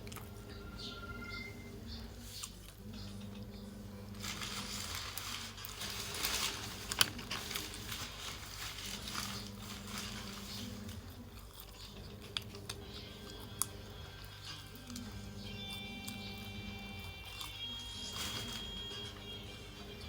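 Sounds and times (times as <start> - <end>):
chewing and biting sandwich: 2.2 - 20.0.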